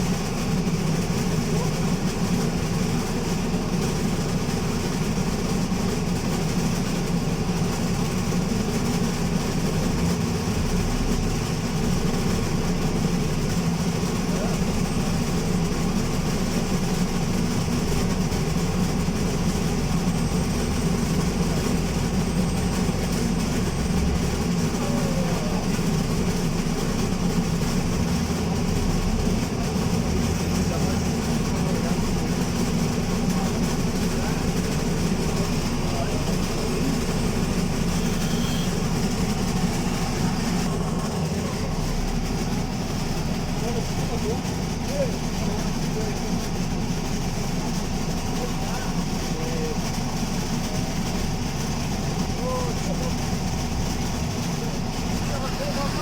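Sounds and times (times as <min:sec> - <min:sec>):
bus engine rumble from on board: 0:00.0 - 0:56.0.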